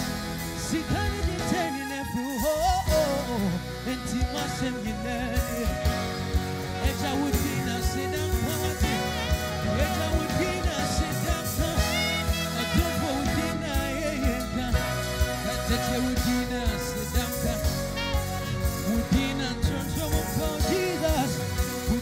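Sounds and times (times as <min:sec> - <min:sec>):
live band playing gospel song: 0:00.0 - 0:22.0.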